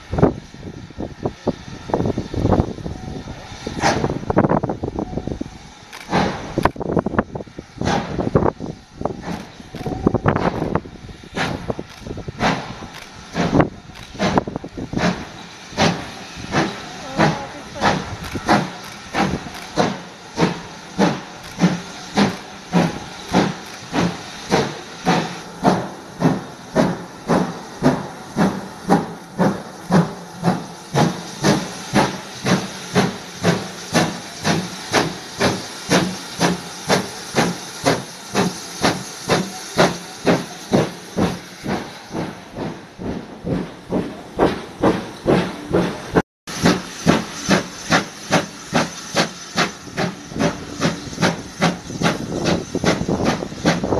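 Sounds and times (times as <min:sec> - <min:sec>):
steam locomotive exhaust beats: 0:00.0 - 0:53.9.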